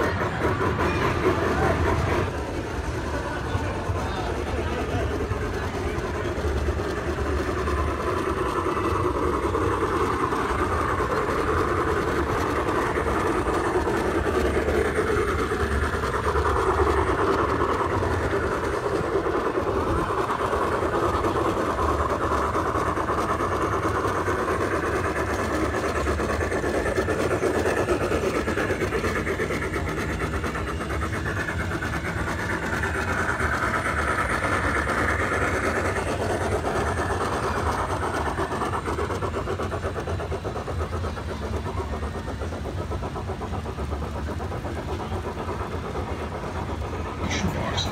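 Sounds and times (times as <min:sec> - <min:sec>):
model trains rolling: 0:00.0 - 0:47.9.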